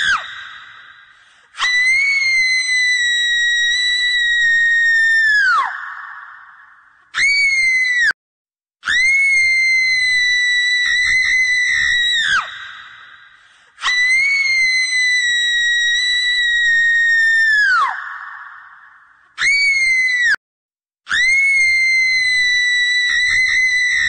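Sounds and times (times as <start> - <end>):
shrill screams with echo: 0.0 - 8.2, 8.8 - 20.4, 21.1 - 24.0.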